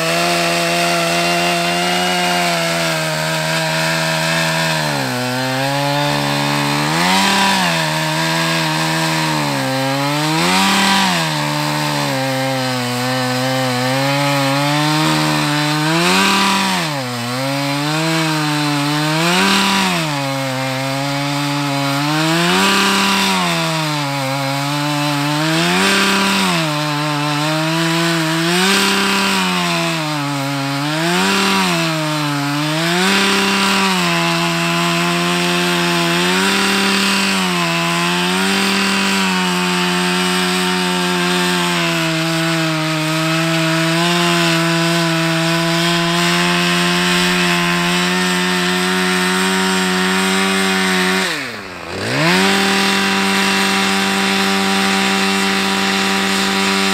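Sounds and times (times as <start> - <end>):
two-stroke engine revving: 0.0 - 56.9.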